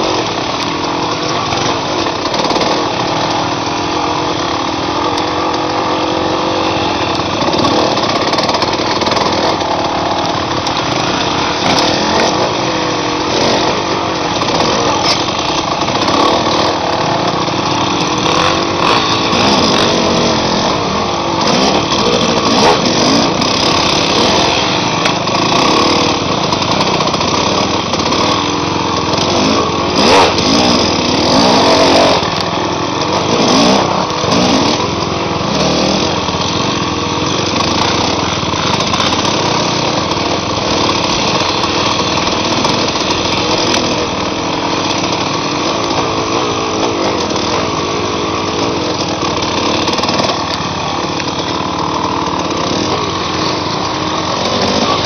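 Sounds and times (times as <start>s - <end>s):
trail bike engine revving: 0.0s - 55.0s.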